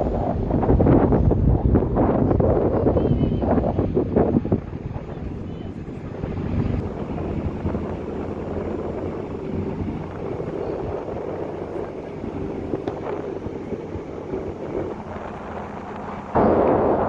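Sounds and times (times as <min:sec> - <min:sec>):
rushing noise: 0:00.0 - 0:17.0
ship engines droning: 0:00.0 - 0:17.0.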